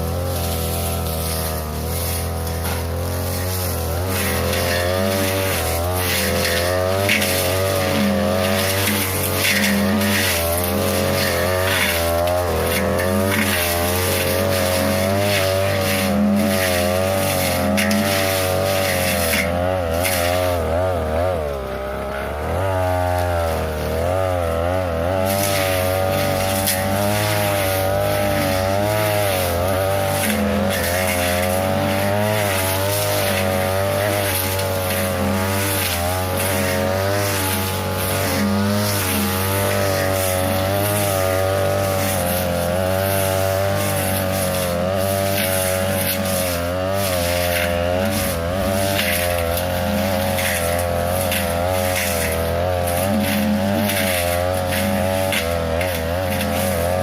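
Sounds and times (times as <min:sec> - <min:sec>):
brush cutter cutting grass: 0:00.0 - 0:57.0.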